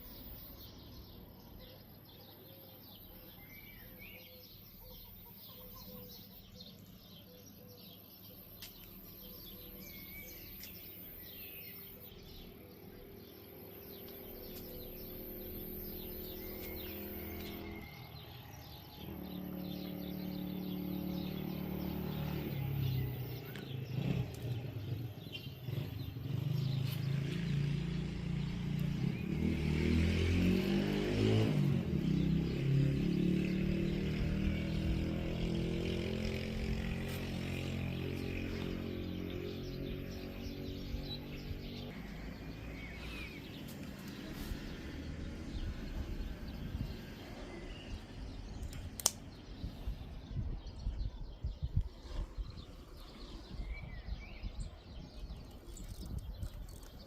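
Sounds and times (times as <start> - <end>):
birds chirping faintly: 0.0 - 57.0.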